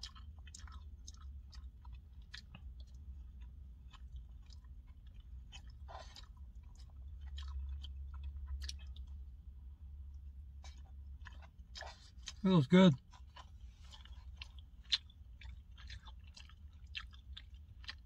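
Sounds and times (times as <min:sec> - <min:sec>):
person chewing: 0:00.0 - 0:09.4, 0:10.1 - 0:18.0.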